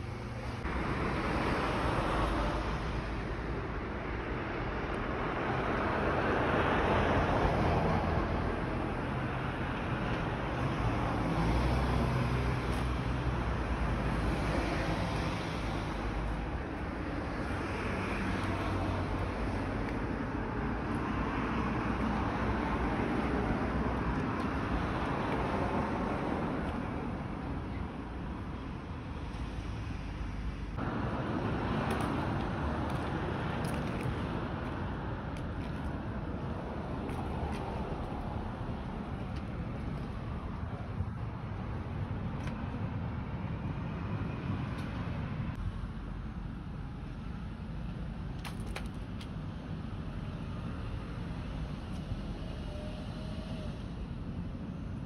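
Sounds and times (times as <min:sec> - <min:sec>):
traffic passing: 0:00.0 - 0:55.0.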